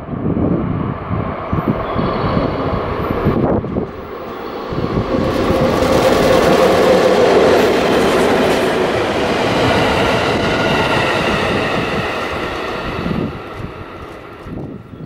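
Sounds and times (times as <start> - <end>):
train wheels rolling over rails: 2.2 - 14.8.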